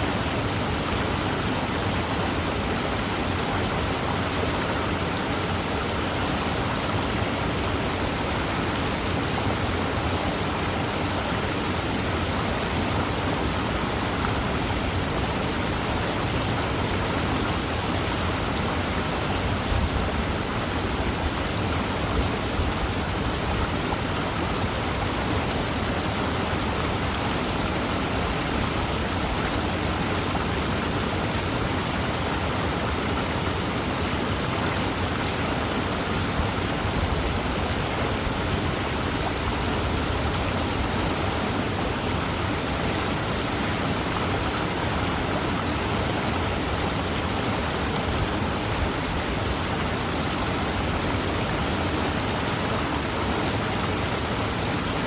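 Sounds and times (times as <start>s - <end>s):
fast river running: 0.0s - 55.0s.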